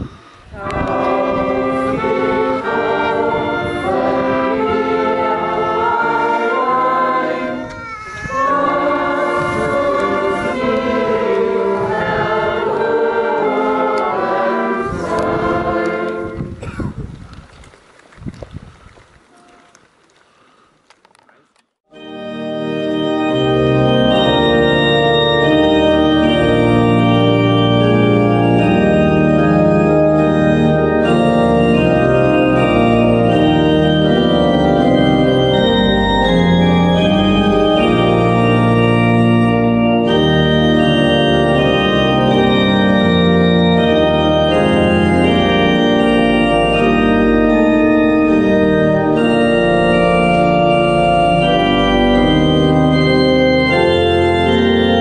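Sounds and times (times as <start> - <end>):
organ music: 0.0 - 7.7, 8.3 - 16.6, 21.9 - 55.0.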